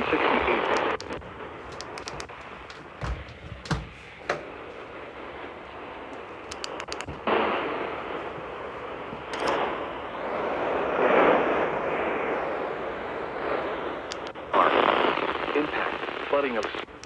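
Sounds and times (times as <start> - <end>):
radio static crackling hiss: 0.0 - 17.0.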